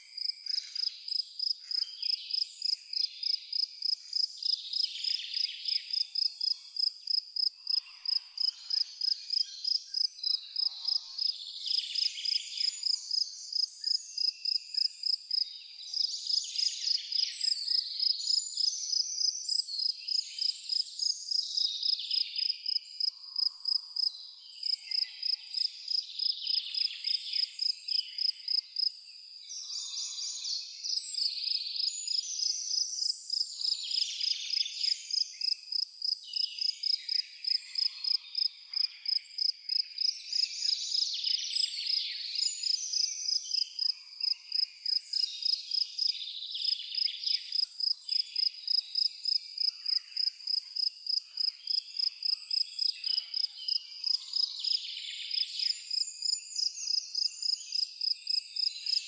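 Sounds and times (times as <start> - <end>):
insect chirps and buzzes: 0.0 - 59.0
cricket chirping: 0.2 - 15.4, 17.1 - 30.3, 30.9 - 59.0.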